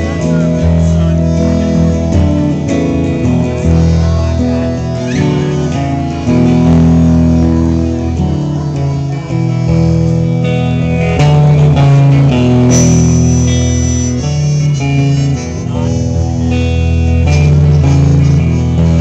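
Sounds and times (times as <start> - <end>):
acoustic guitar: 0.0 - 19.0
amplified harmonica: 0.0 - 19.0
electric guitar: 0.0 - 19.0.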